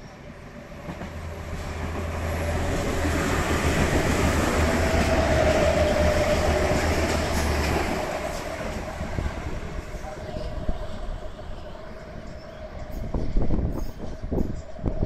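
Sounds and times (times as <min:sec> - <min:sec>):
railcar rushing past: 0:00.0 - 0:15.0.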